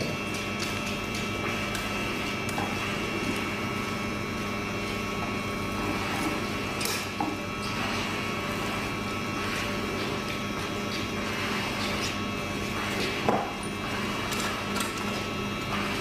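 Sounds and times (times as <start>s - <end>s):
mechanical hum of equipment: 0.0s - 16.0s.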